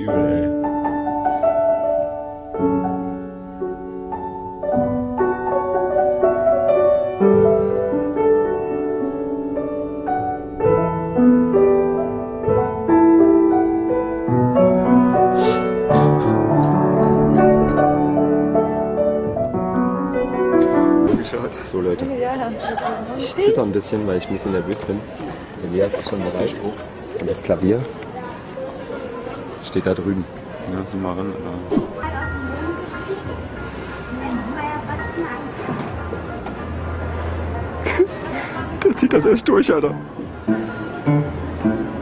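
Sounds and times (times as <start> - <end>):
grand piano playing: 0.0 - 27.2, 31.3 - 42.0.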